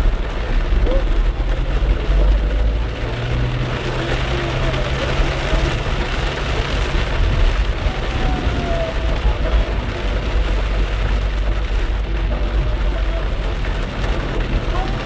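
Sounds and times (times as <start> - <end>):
car tyres rumbling on water: 0.0 - 15.0
heavy rain beating on a car: 0.0 - 15.0.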